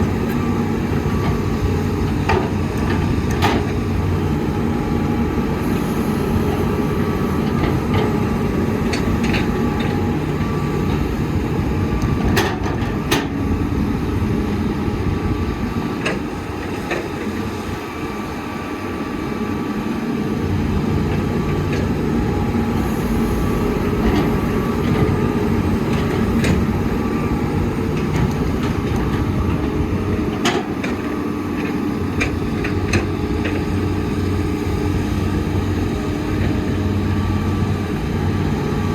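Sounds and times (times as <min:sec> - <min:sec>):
diesel excavator running: 0:00.0 - 0:38.9
dump trucks: 0:00.0 - 0:38.9.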